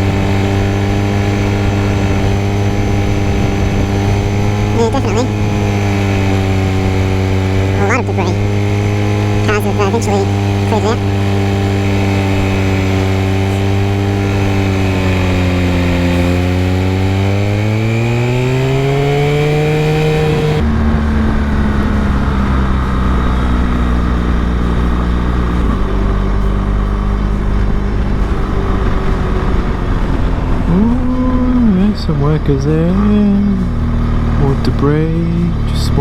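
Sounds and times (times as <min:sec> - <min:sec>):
motorcycle engine accelerating: 0:00.0 - 0:07.8, 0:10.3 - 0:35.8.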